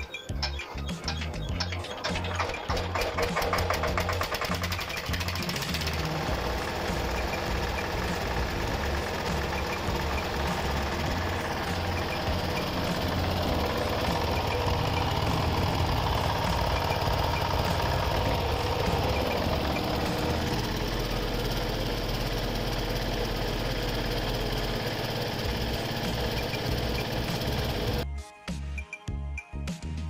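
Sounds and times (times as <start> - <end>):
diesel generator engine running: 0.0 - 28.0
music: 0.0 - 30.0.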